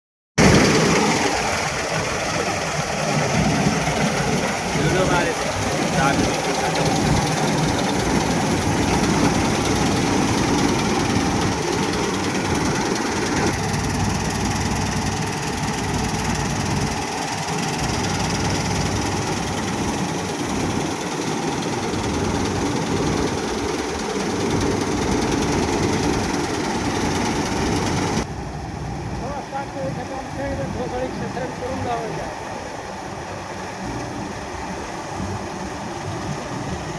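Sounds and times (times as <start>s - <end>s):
combine harvester engine running: 0.4s - 36.9s.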